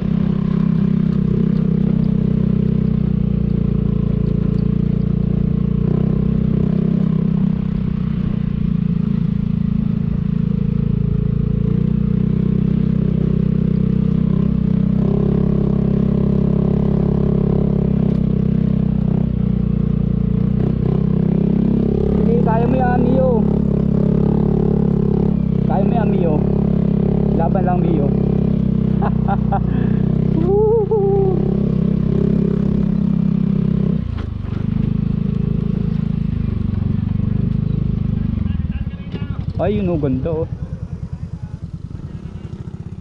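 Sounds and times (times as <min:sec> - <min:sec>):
scooter engine running: 0:00.0 - 0:43.0.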